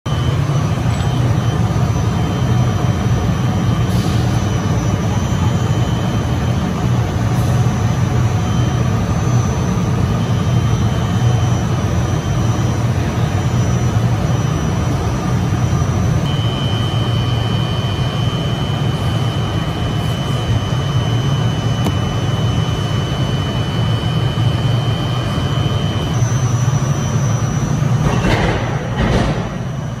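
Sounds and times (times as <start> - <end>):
machine low mechanical hum: 0.1 - 30.0
thin high whine: 0.1 - 30.0.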